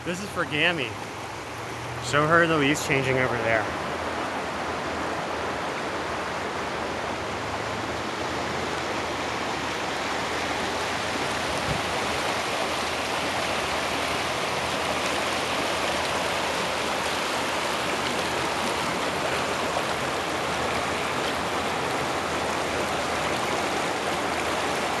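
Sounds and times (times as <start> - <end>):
stream babbling over stones: 0.0 - 25.0.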